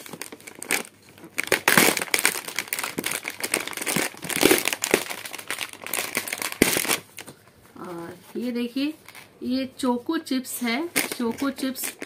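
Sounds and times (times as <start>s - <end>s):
plastic wrapping crinkling: 0.0s - 9.5s, 10.6s - 12.0s.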